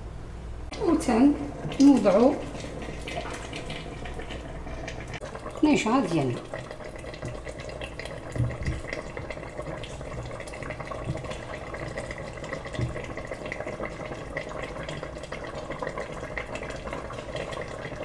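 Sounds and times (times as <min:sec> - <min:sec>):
broth bubbling in a metal pot: 0:00.7 - 0:18.0.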